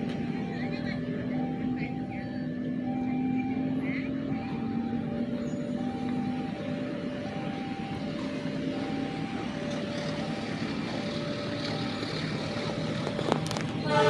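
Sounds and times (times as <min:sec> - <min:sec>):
road traffic hum: 0:00.0 - 0:14.0
two-tone level crossing alarm: 0:00.0 - 0:14.0.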